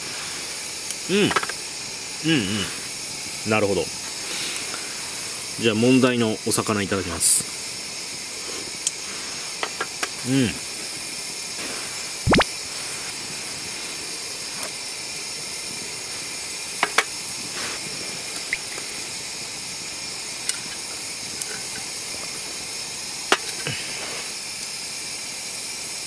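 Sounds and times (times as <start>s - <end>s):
frying pan sizzling: 0.0s - 26.0s.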